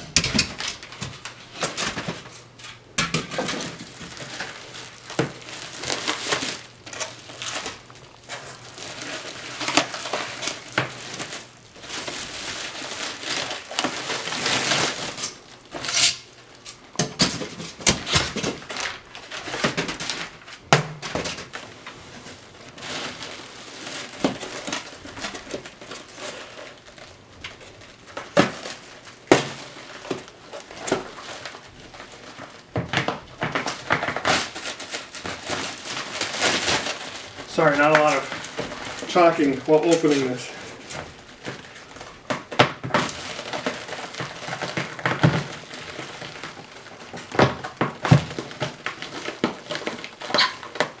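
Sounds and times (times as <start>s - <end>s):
packing material rustling and crinkling: 0.0s - 51.0s.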